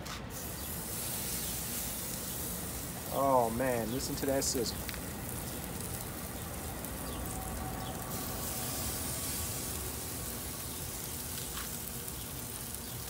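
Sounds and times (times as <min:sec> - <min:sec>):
chicken sizzling on grill: 0:00.1 - 0:13.0
low steady rumble: 0:00.3 - 0:12.8.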